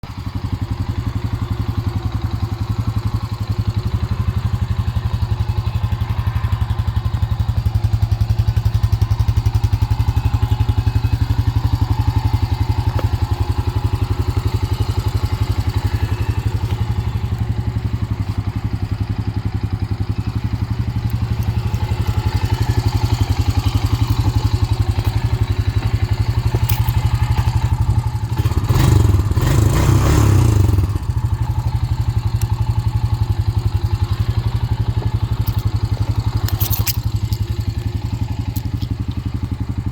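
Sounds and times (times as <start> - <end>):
atv engine idling: 0.0 - 39.9.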